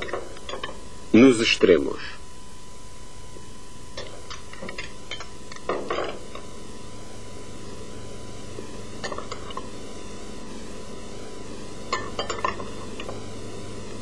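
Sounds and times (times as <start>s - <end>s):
faint high hum: 0.0s - 14.0s
steady hiss: 0.0s - 14.0s.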